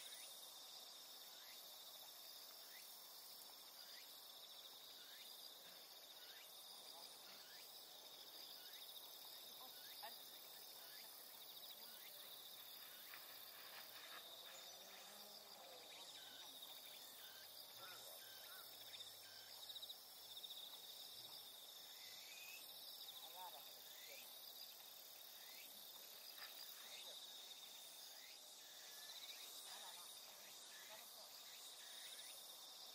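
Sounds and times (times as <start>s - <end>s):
insects trilling: 0.0s - 32.9s.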